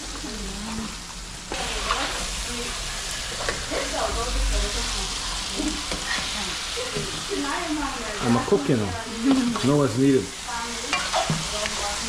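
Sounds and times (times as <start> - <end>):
fish sizzling in hot curry: 0.0 - 12.0.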